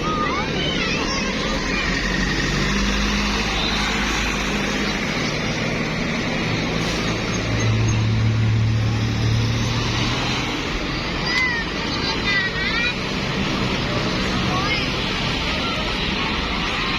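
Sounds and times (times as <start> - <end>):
bus diesel engine running: 0.0 - 16.9.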